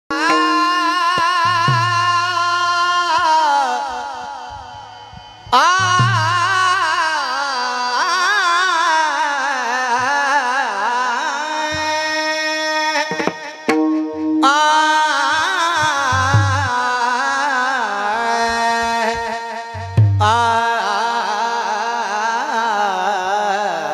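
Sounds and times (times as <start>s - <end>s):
man singing ornamented melody: 0.1s - 23.9s.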